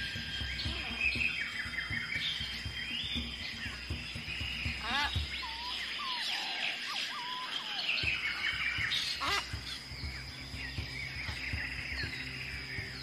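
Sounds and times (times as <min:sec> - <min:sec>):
birds chirping: 0:00.0 - 0:13.0
birds whistling sliding notes: 0:00.0 - 0:13.0
constant high whine: 0:00.0 - 0:13.0.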